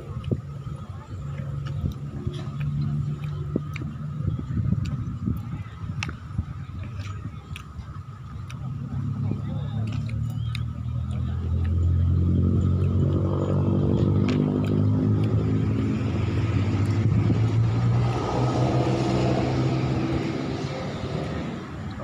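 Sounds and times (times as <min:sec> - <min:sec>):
vehicle engine passing by: 0:00.0 - 0:22.0.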